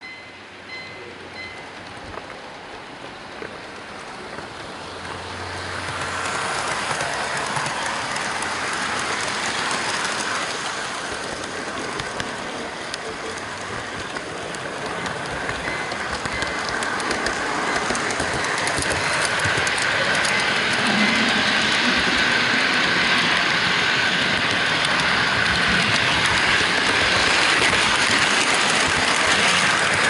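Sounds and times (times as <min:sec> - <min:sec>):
model train wheels rolling on track: 0:00.7 - 0:30.0.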